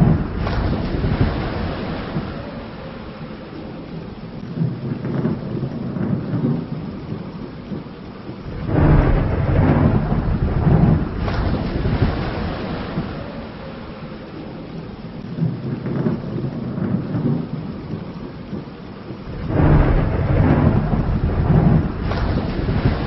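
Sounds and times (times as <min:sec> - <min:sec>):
rolling thunder: 0:00.0 - 0:23.0
steady rain: 0:00.0 - 0:23.0.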